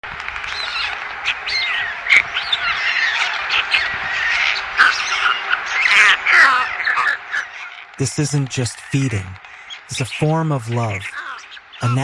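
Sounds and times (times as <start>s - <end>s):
birds chirping and squawking: 0.5s - 12.0s.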